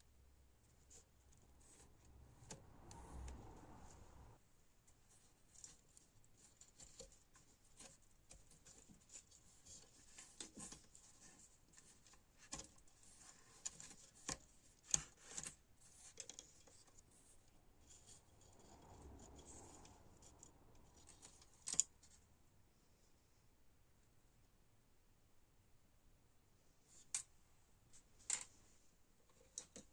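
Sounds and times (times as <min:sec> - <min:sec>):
small clicks and scrapes: 0:00.6 - 0:22.3, 0:26.8 - 0:29.9.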